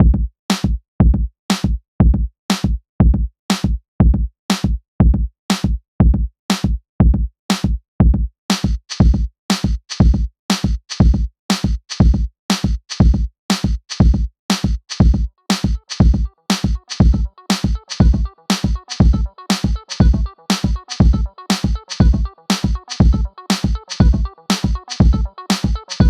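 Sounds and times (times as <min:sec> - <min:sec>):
drum machine beat: 0:00.1 - 0:26.0.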